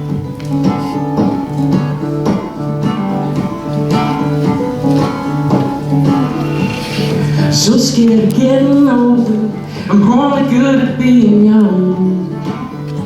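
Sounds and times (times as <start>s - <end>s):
fingerstyle acoustic guitar: 0.0s - 13.0s
person singing: 2.3s - 13.0s.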